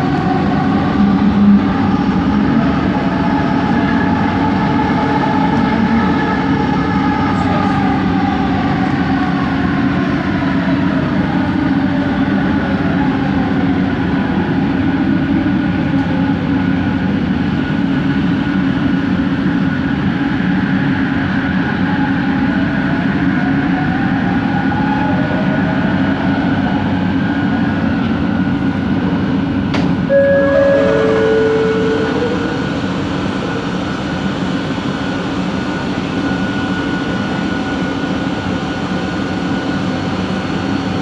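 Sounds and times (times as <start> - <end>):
train running rumble: 0.0 - 41.0.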